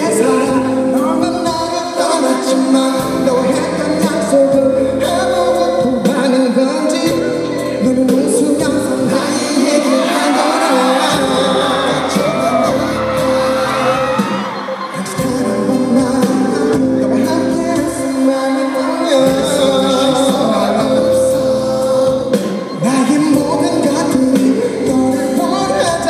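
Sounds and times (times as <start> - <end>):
keyboard and band accompaniment: 0.0 - 26.0
man singing pop ballad: 0.0 - 26.0.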